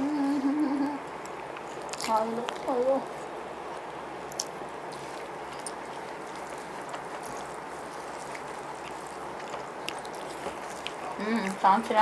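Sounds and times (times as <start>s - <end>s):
eating and chewing: 0.2s - 12.0s.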